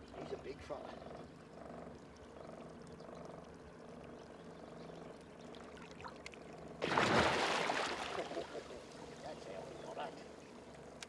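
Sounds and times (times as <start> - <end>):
frogs croaking faintly: 0.0 - 11.0.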